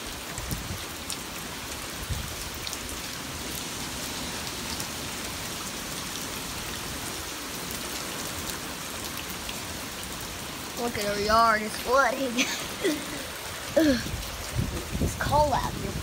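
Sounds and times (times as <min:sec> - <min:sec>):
heavy rain on floodwater: 0:00.0 - 0:16.0.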